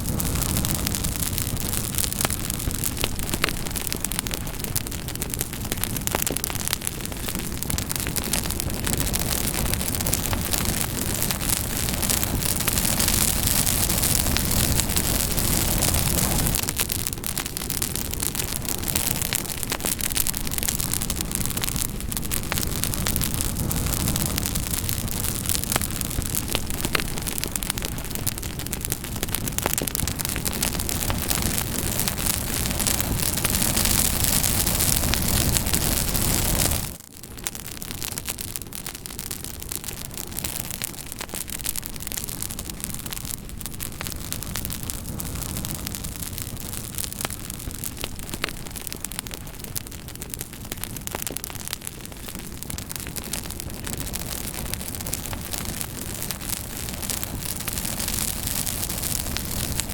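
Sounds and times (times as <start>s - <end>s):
campfire burning: 0.0s - 59.9s
fire crackles and pops: 0.0s - 59.9s.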